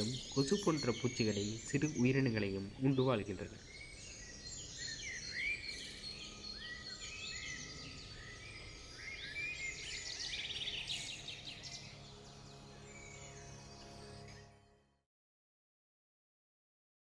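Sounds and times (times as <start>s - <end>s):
bird trill: 0.0s - 14.4s
small birds chirping: 0.0s - 14.6s.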